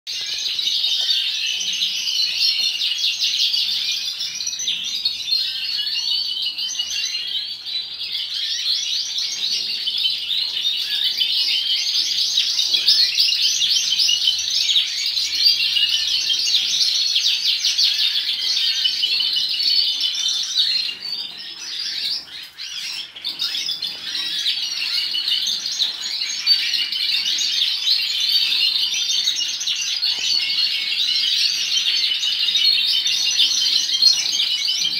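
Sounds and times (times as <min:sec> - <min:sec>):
canaries chirping: 0:00.1 - 0:34.9.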